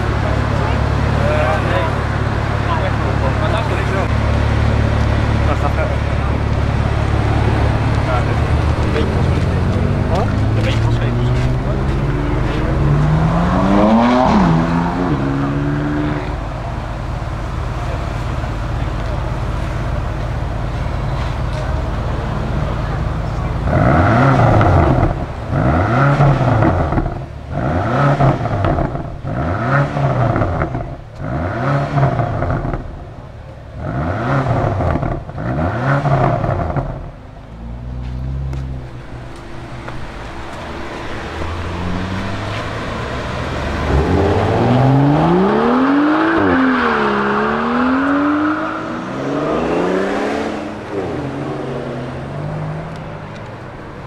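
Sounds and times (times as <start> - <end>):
car engine driving off: 0.0 - 54.0.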